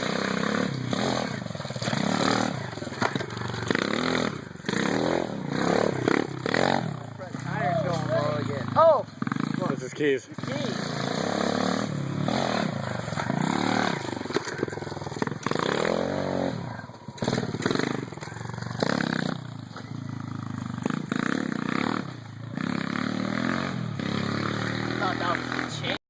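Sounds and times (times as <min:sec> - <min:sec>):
minibike engine revving: 0:00.0 - 0:26.0.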